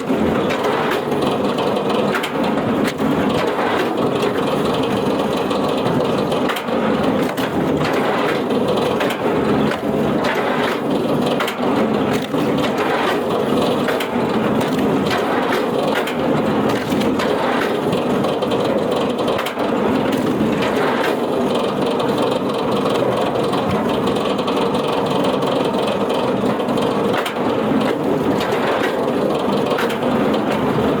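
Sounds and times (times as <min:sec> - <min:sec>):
wood-processing machine running: 0:00.0 - 0:31.0.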